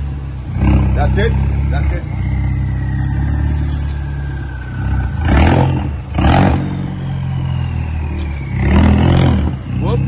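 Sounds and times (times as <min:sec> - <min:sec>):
car engine with throttle blips: 0:00.0 - 0:10.0
faint whine falling in pitch: 0:01.6 - 0:10.0.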